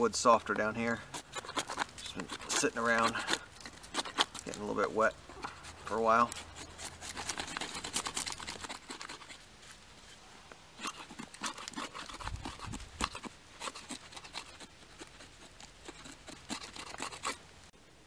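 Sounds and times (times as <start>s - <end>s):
knife shaving bark off stick: 0.0s - 10.2s, 10.8s - 17.5s.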